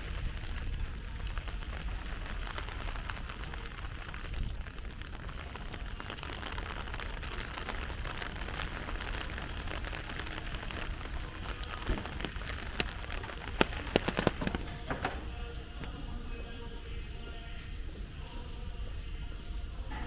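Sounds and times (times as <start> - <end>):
heavy rain: 0.0 - 20.0
raindrops ticking close by: 0.0 - 20.0.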